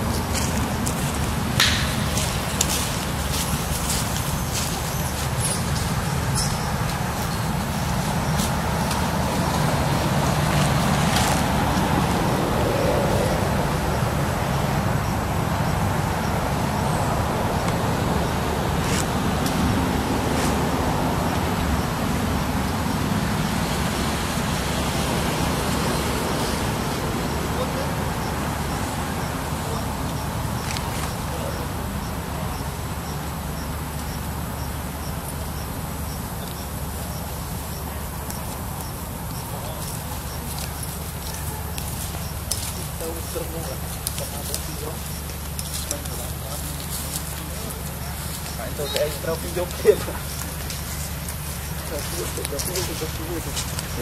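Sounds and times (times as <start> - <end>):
insect chirping: 0.0 - 18.5, 19.8 - 54.0
low rumbling background noise: 0.0 - 54.0.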